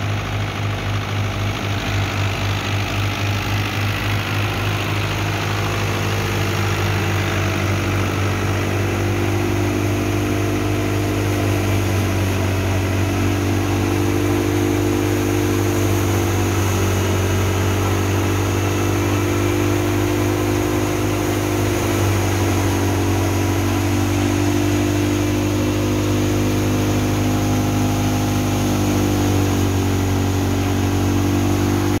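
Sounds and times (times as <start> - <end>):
tractor driving thresher drone: 0.0 - 32.0.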